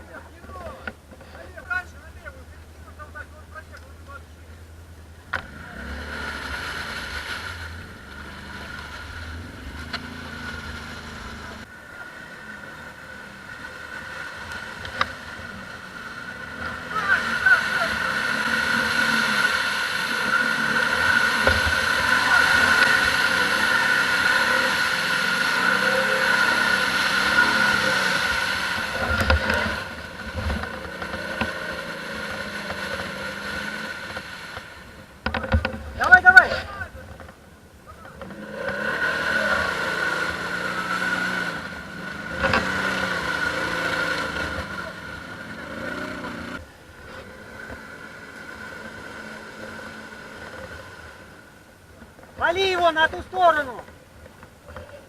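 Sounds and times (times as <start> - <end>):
high whine: 0.0 - 51.4
atv engine revving: 0.0 - 55.0.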